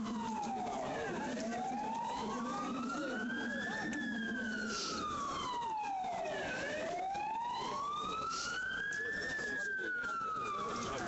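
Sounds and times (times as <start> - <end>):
emergency siren wailing: 0.0 - 11.0.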